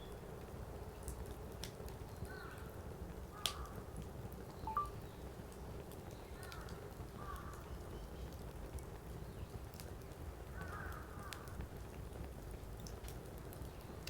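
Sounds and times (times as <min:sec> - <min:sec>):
wood fire burning: 0:00.2 - 0:04.5, 0:05.5 - 0:14.0.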